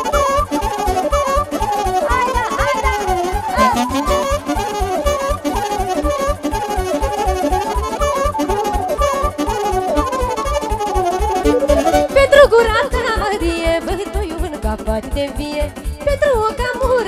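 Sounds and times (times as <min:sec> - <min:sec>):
fast instrumental folk dance music: 0:00.0 - 0:17.0.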